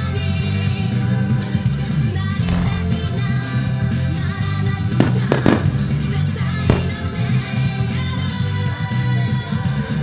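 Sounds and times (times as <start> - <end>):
rock song with singing: 0.0 - 10.0.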